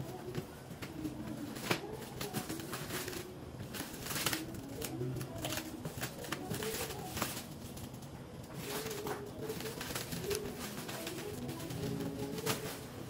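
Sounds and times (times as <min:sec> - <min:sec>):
plastic wrap crinkling: 0:00.0 - 0:13.0
scissors cutting plastic: 0:00.1 - 0:13.0.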